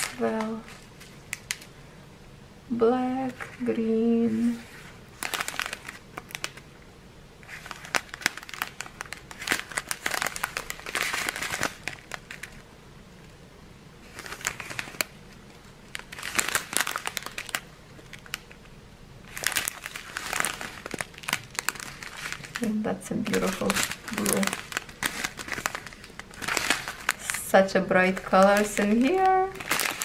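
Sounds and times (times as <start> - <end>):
plastic bags crinkling: 0.0 - 1.8, 4.4 - 6.7, 7.4 - 12.6, 14.0 - 30.0.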